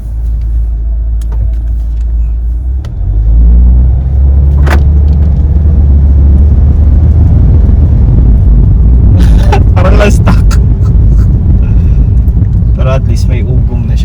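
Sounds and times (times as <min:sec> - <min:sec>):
car engine accelerating hard: 0:01.3 - 0:14.0.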